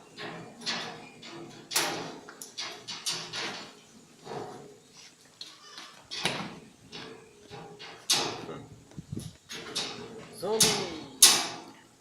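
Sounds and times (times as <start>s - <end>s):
goats knocking and scuffling: 0.0s - 11.8s.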